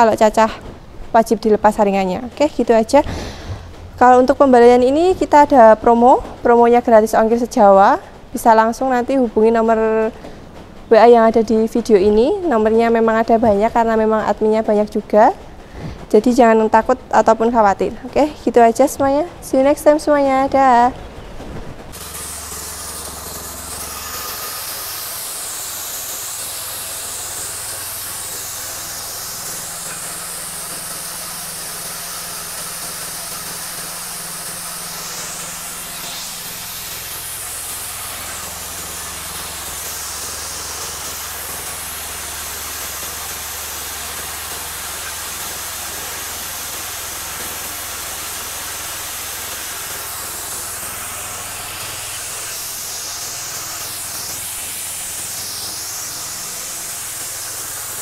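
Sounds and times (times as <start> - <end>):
grinder milling corn hiss: 0.0 - 20.2, 21.9 - 58.0
petrol engine hum: 0.0 - 58.0.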